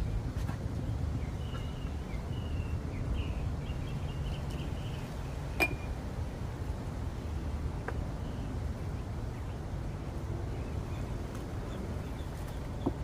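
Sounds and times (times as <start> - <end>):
birds chirping: 0.0 - 6.0, 7.6 - 13.0.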